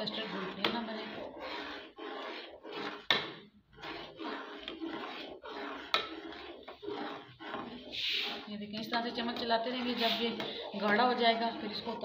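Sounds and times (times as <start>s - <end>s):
spoon scraping metal pot: 0.0s - 12.0s.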